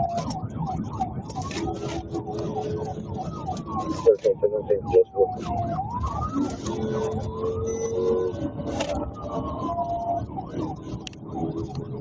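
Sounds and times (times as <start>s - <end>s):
car road and engine noise: 0.0s - 12.0s
police siren yelping: 0.0s - 12.0s
siren wailing tone: 0.0s - 12.0s.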